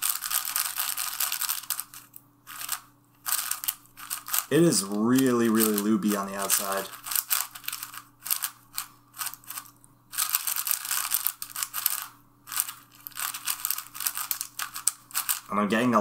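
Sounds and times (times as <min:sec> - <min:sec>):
plastic puzzle cube clicking: 0:00.0 - 0:02.0, 0:02.6 - 0:04.5, 0:06.5 - 0:15.5.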